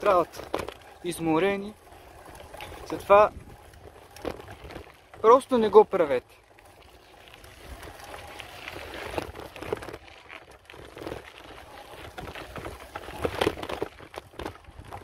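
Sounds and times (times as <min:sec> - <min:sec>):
bicycle tyres crunching on gravel: 0:00.0 - 0:15.0
bike rattling: 0:00.0 - 0:15.0.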